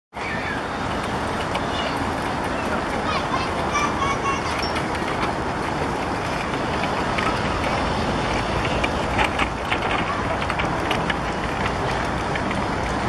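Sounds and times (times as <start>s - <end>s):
passing road traffic: 0.2s - 13.0s.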